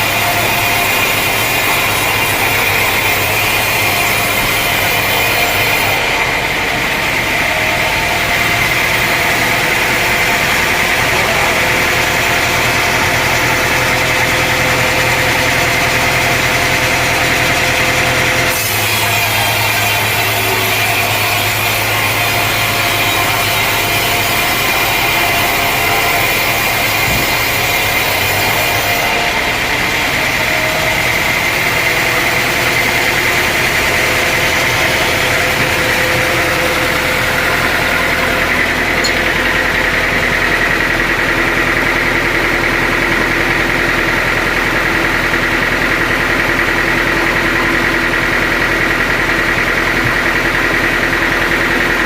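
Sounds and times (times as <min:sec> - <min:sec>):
sawmill engine whining: 0:00.0 - 0:52.0.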